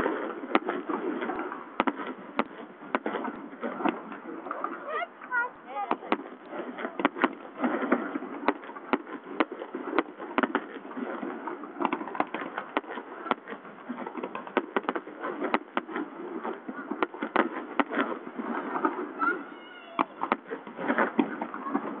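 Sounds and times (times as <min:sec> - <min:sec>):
fireworks bursting with bangs: 0:00.0 - 0:22.0.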